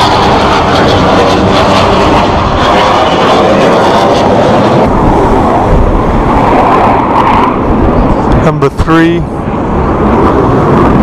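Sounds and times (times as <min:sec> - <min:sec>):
jet noise: 0:00.0 - 0:11.0.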